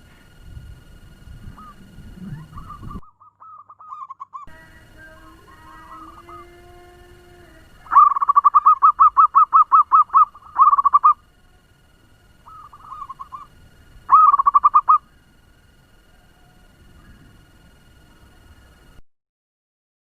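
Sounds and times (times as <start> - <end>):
dove cooing in fast runs: 0.0 - 11.3, 12.4 - 15.2, 16.0 - 18.6.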